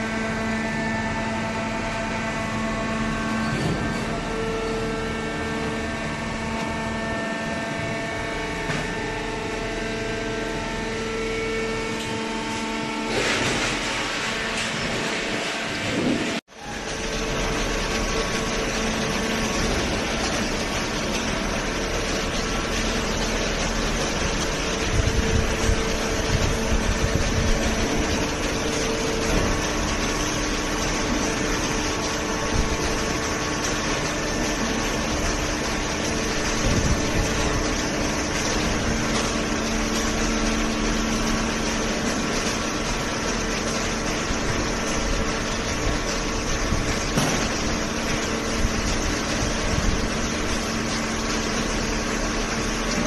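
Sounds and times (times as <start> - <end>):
baler machine hum with whine: 0.0 - 53.0.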